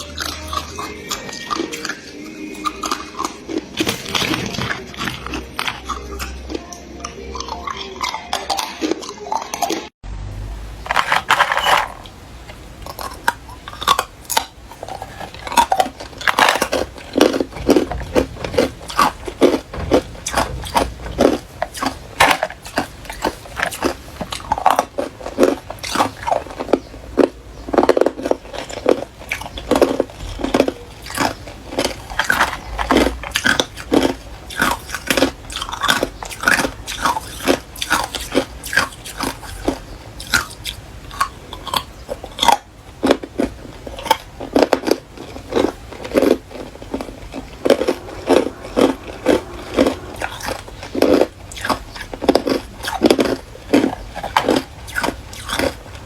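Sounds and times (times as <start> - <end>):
ice being chewed: 0.0 - 9.9, 12.8 - 56.0.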